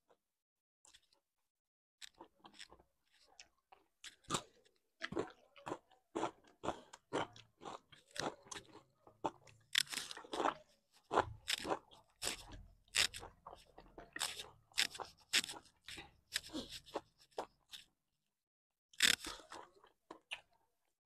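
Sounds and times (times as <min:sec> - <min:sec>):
cucumber crunching: 0:02.0 - 0:17.9, 0:19.0 - 0:20.4
wet chewing: 0:02.0 - 0:17.9, 0:19.0 - 0:20.6.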